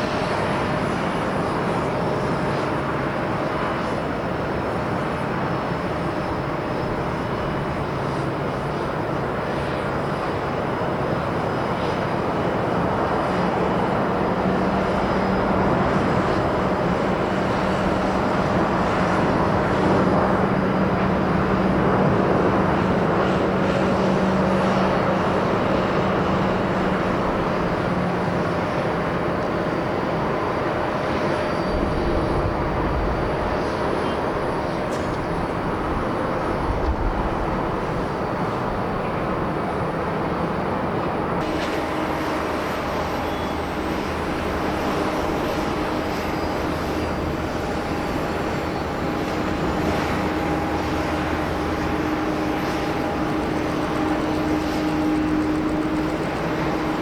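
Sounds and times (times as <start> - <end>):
jet engine rush: 0.0 - 57.0
jet engine whine: 0.0 - 57.0.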